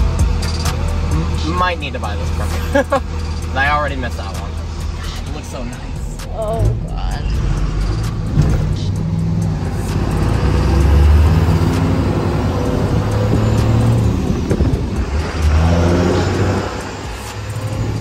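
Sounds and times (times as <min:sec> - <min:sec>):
truck engine accelerating: 0:00.0 - 0:18.0.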